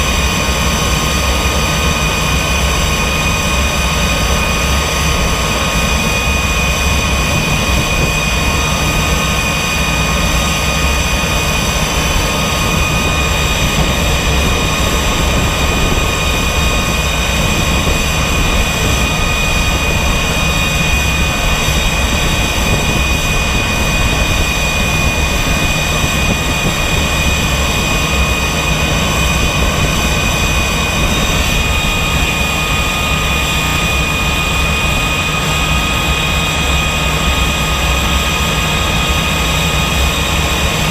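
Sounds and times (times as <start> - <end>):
high-pitched engine whine: 0.0 - 40.9
jet engine drone: 0.0 - 40.9.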